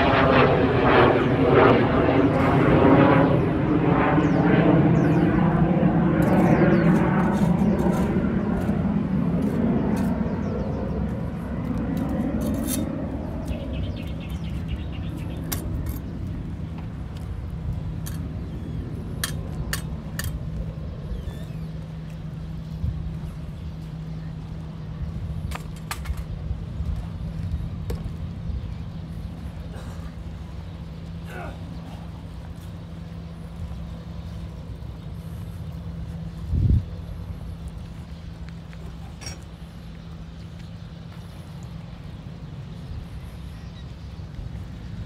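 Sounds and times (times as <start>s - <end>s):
engine rumble passing: 0.0s - 45.0s
low motor hum: 0.0s - 45.0s.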